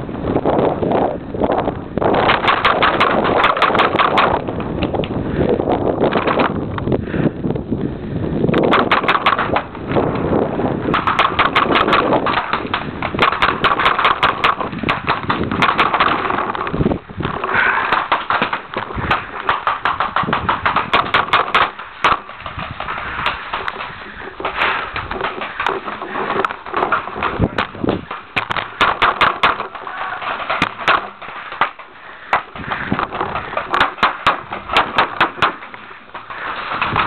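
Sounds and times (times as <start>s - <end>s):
paintball markers firing: 2.2s - 5.2s, 8.6s - 10.3s, 10.9s - 37.0s.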